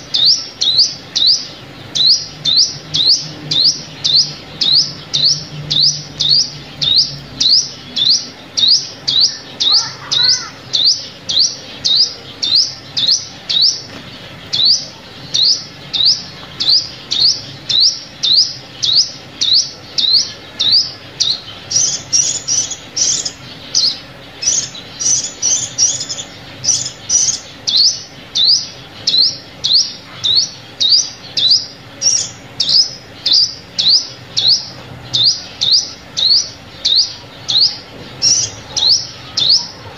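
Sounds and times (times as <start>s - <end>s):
bird sharp high chip calls: 0.0s - 39.9s.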